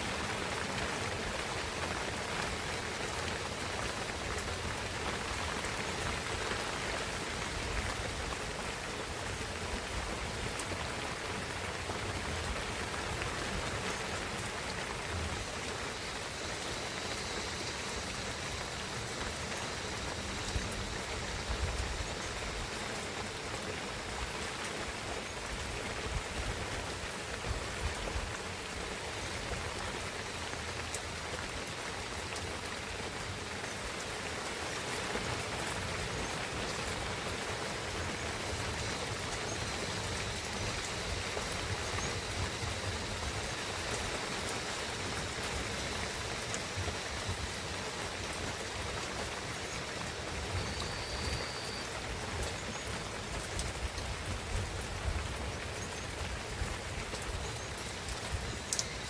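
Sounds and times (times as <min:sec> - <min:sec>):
rain hissing in forest: 0:00.0 - 0:59.0
raindrops ticking: 0:00.1 - 0:59.0.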